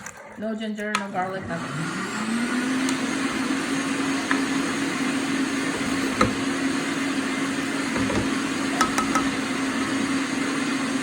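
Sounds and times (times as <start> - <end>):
electric blender motor running: 1.3 - 11.0.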